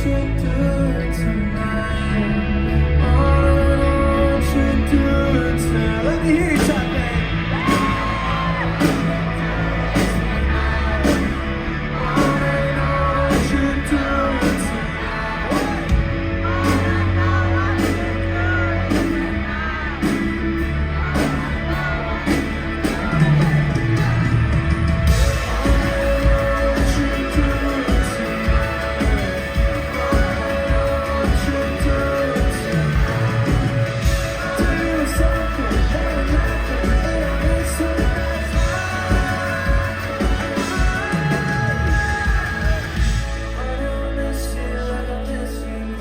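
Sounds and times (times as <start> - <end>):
bass line: 0.0 - 46.0
drums: 0.0 - 46.0
person singing: 0.0 - 46.0.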